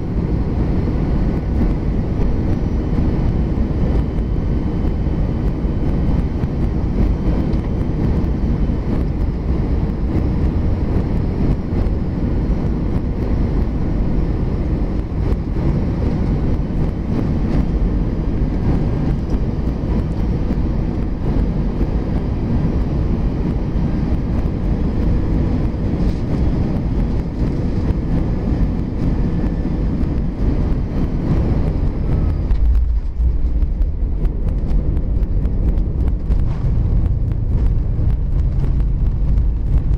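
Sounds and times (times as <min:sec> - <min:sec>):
aircraft cabin engine roar: 0:00.0 - 0:39.9
wheels rumbling on runway: 0:00.0 - 0:39.9.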